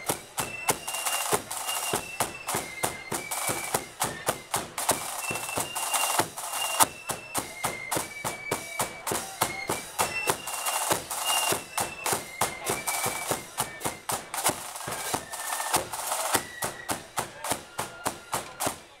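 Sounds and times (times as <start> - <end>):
flute band playing a march: 0.0 - 19.0
quick drum beat: 0.0 - 19.0.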